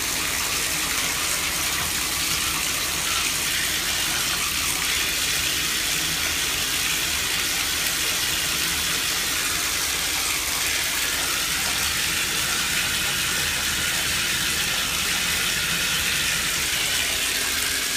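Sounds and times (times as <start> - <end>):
water running from tap: 0.0 - 17.9.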